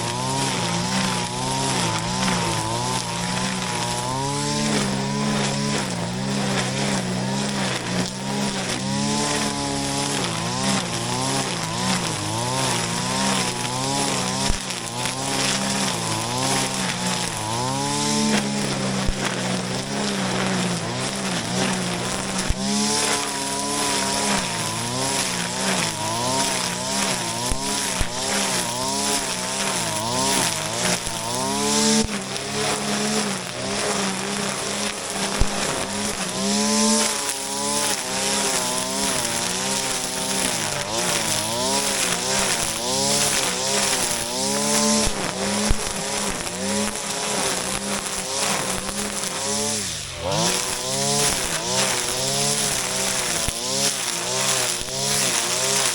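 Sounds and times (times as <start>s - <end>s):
brush cutter engine running: 0.0s - 55.9s.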